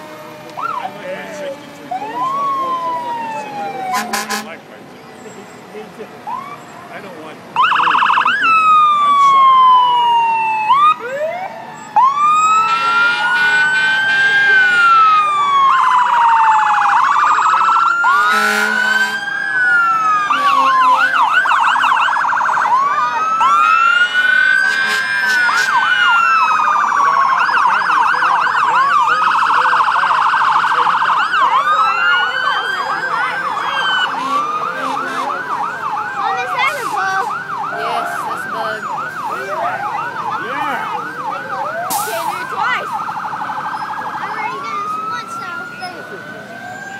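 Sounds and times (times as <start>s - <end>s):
fire engine sirens wailing: 0.0s - 46.9s.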